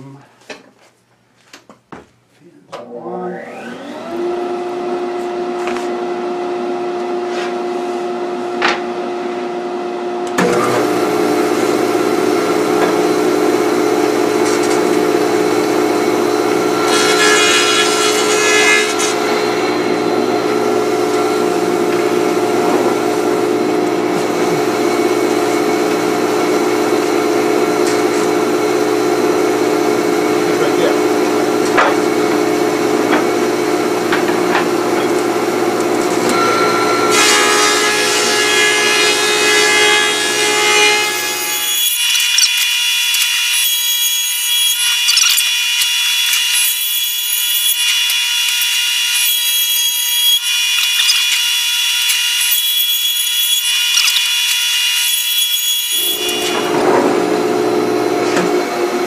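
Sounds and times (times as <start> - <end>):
planer cutting board: 2.8 - 9.5, 10.2 - 59.0
planer motor humming: 2.8 - 59.0.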